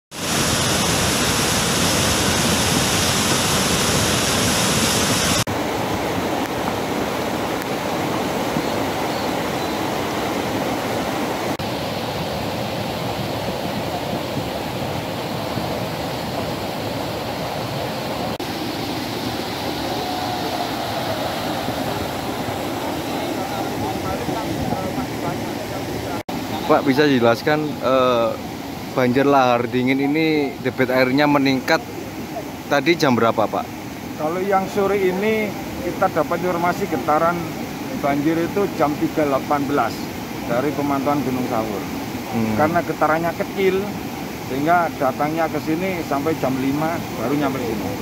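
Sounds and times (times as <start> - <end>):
mud flood rushing: 0.1 - 48.0.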